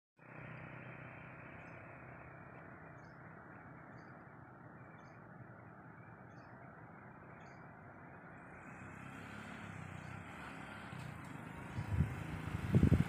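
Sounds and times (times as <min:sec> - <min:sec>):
faint outdoor ambience: 0:00.2 - 0:13.0.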